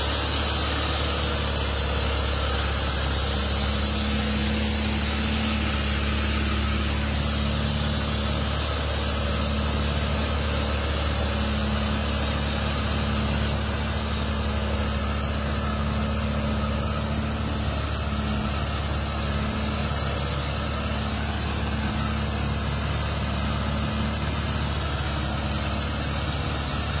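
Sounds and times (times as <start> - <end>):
vehicle engine running steadily: 0.0 - 27.0.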